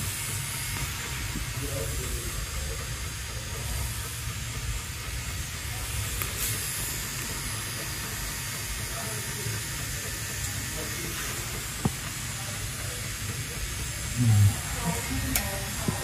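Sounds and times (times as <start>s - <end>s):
tattoo pen motor whine: 0.0s - 16.0s.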